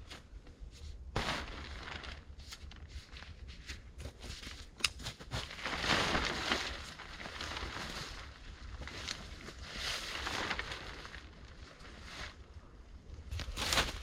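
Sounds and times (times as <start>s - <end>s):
tarp rustling and crinkling: 0.0s - 14.0s.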